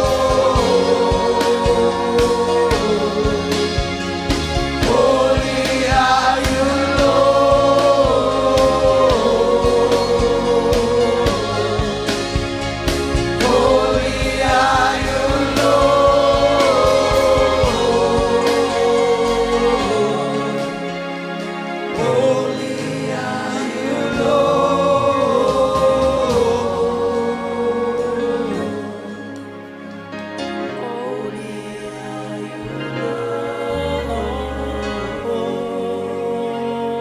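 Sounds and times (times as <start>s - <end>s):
accompanying instruments: 0.0s - 37.0s
gospel singers: 0.0s - 37.0s.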